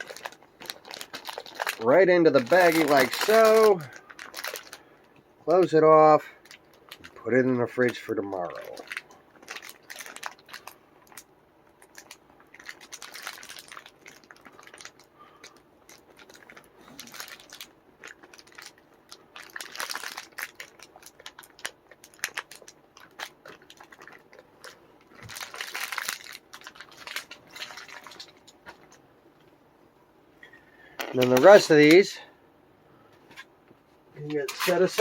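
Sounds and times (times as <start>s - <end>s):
plastic bag crinkling: 0.0s - 29.0s, 30.8s - 32.2s, 34.3s - 35.0s.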